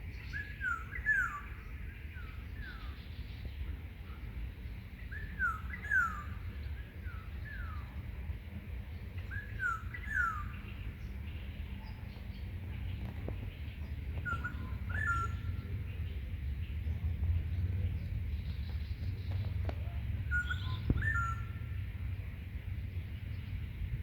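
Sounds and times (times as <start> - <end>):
steady low rumble: 0.0 - 24.0
birds whistling calls: 0.1 - 4.2, 4.8 - 8.2, 9.1 - 17.0, 17.9 - 22.0.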